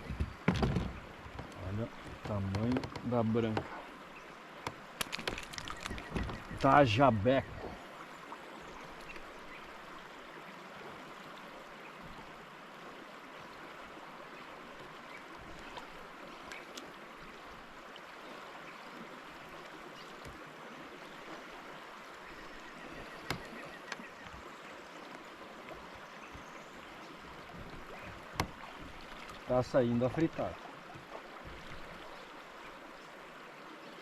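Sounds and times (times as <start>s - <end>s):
river water rushing: 0.0s - 34.0s.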